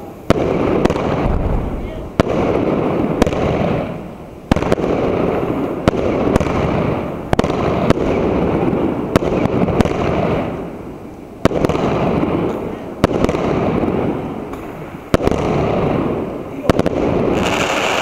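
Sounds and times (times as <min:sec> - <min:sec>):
firework shells bursting: 0:00.0 - 0:10.8, 0:11.4 - 0:18.0
rumbling crackle of fireworks: 0:00.0 - 0:18.0.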